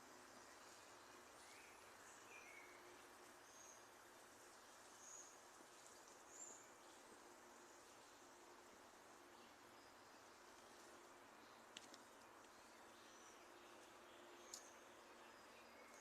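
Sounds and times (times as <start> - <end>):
small birds chirping: 0.0 - 16.0
steady background hiss: 0.0 - 16.0.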